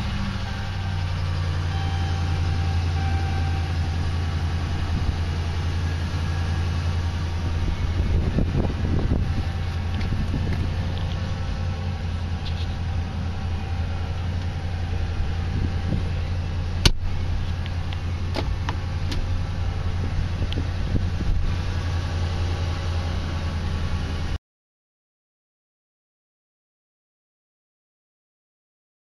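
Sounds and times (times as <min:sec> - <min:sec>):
truck engine idling: 0:00.0 - 0:24.4.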